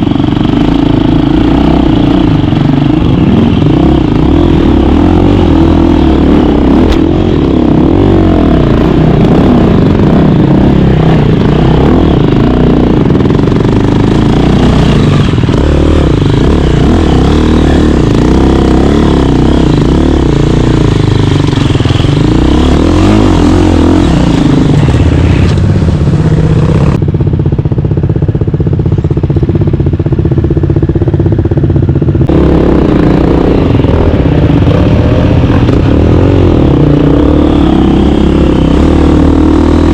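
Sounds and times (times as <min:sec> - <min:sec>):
dirt bike engine revving: 0:00.0 - 0:27.0, 0:30.1 - 0:39.9.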